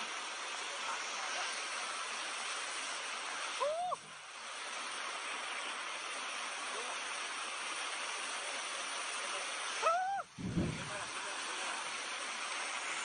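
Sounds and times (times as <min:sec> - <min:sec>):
rushing roar of flash flood: 0:00.0 - 0:13.0.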